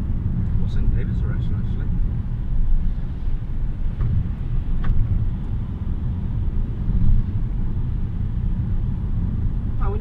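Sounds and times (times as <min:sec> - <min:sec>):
car rumble inside cabin: 0:00.0 - 0:10.0.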